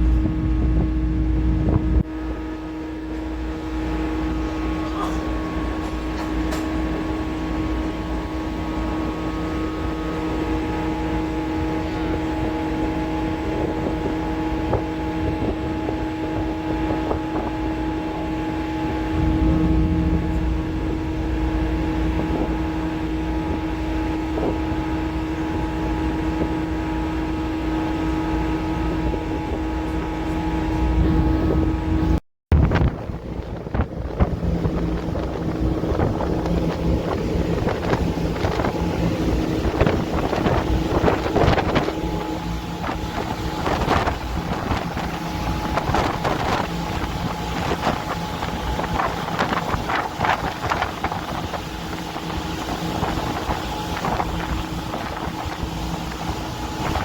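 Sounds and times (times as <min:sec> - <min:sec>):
ferry engines droning: 0:00.0 - 0:57.0
low rumble: 0:00.0 - 0:57.0.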